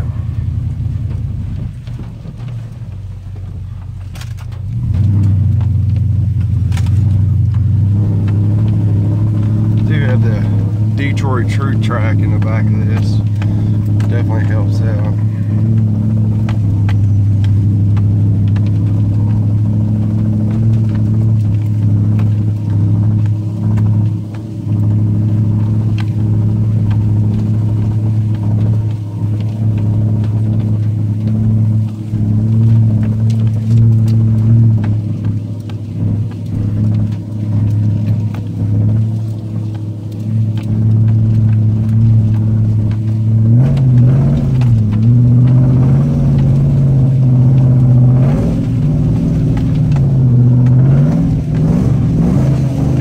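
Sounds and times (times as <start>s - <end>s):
pickup truck engine revving: 0.0s - 53.0s.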